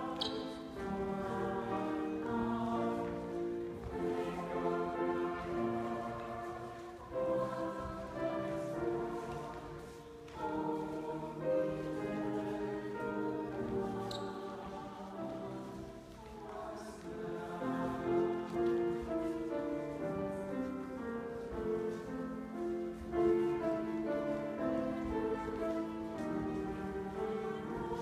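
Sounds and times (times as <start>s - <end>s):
group of voices singing: 0.0s - 19.7s, 23.0s - 28.0s
piano accompaniment: 0.0s - 28.0s.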